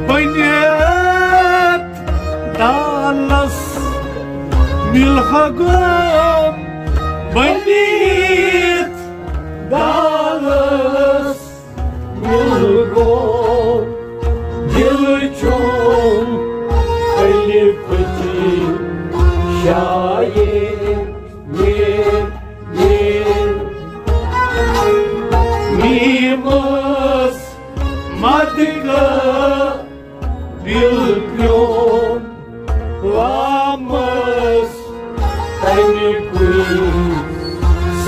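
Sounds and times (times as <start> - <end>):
men singing: 0.0 - 2.0, 2.6 - 4.2, 4.8 - 6.6, 7.3 - 38.0
harmonium drone: 0.0 - 38.0.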